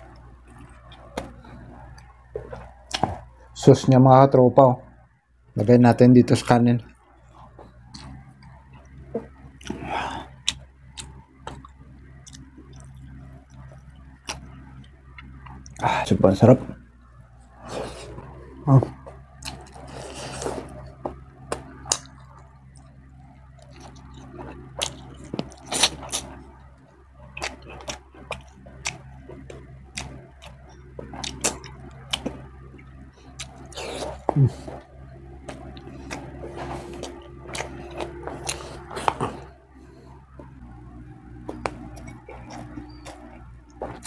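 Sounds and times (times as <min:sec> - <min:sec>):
person chewing wetly: 0:00.0 - 0:03.5, 0:06.9 - 0:16.0, 0:17.2 - 0:44.0
faint low hum: 0:00.0 - 0:44.0.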